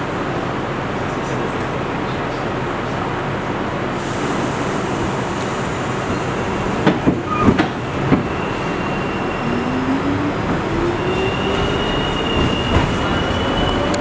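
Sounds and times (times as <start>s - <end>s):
subway train rumble and hiss: 0.0s - 14.0s.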